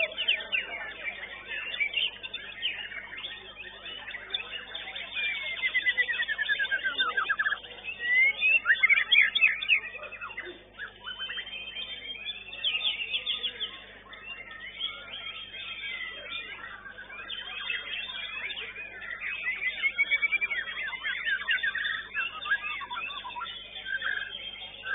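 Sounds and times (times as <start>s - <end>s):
birds singing whistles and trills: 0.0s - 24.9s.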